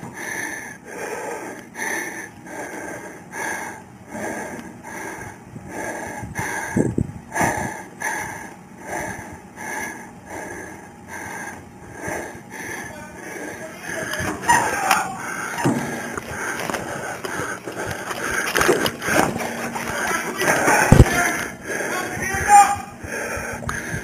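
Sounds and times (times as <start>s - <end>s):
rhythmic breathy panting: 0.0s - 24.0s.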